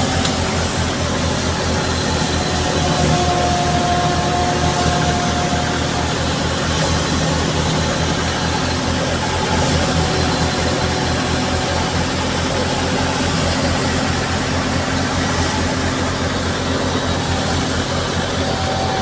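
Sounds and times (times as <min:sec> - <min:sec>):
thin whine: 0:00.0 - 0:19.0
tractor engine throbbing: 0:00.0 - 0:19.0.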